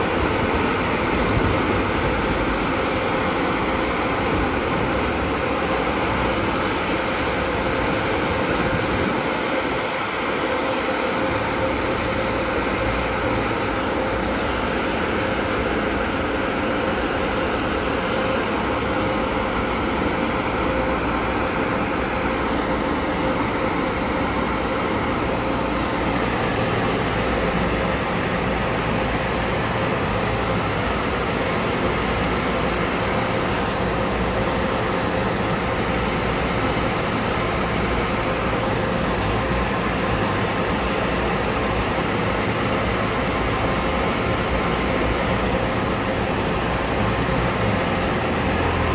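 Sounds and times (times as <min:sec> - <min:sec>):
car wash dryer blowers: 0:00.0 - 0:48.9.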